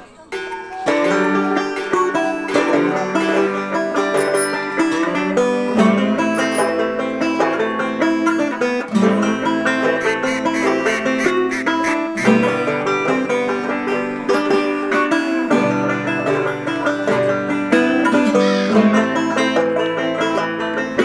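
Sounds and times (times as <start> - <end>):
plucked string music: 0.0 - 21.0
held bass line: 1.3 - 20.9.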